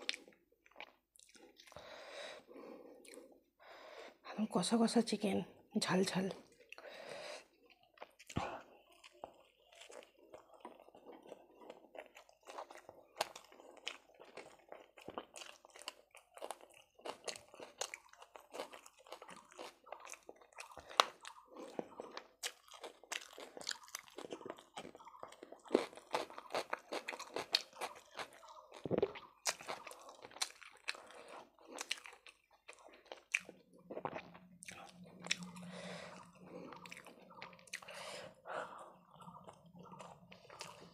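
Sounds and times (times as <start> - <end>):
person chewing: 0.0 - 3.3, 6.4 - 40.9.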